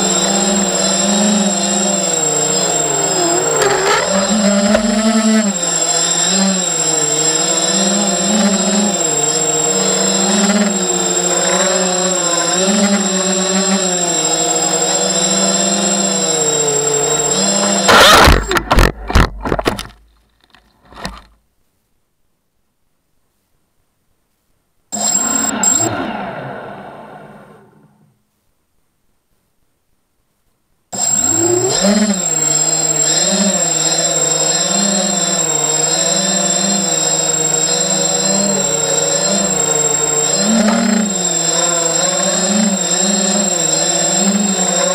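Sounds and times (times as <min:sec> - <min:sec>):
quadcopter motors whining: 0:00.0 - 0:19.9, 0:25.0 - 0:28.1, 0:31.0 - 0:44.9.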